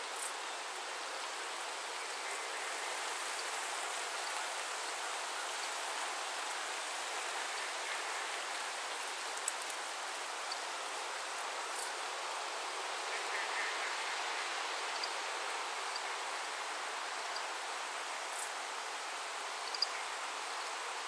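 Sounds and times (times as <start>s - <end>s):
rain falling on water: 0.1s - 21.0s.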